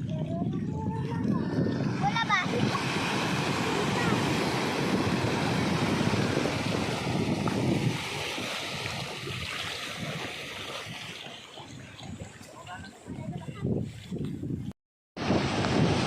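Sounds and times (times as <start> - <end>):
wind: 0.0 - 16.0
sea waves washing ashore: 1.1 - 14.0, 15.2 - 16.0.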